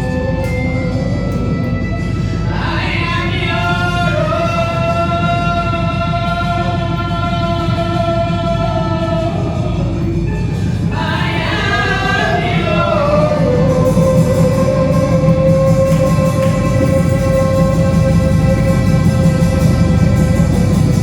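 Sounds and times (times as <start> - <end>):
backing music: 0.0 - 21.0
gospel singing: 0.0 - 21.0.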